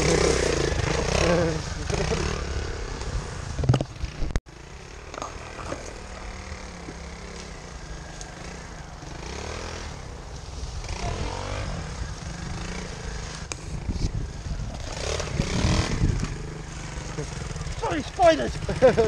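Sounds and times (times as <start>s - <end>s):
small motorbike engine revving: 0.0s - 19.0s.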